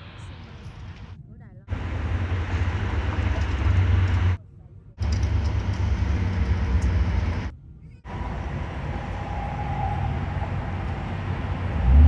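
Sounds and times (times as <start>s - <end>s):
jet engines and airflow rumbling: 0.0s - 12.0s.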